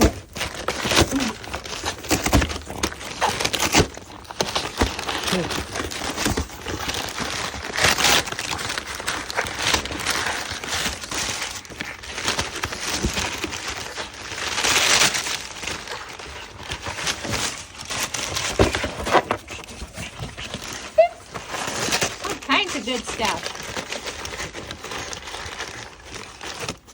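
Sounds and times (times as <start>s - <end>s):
packaging crinkling and rustling: 0.0s - 26.9s.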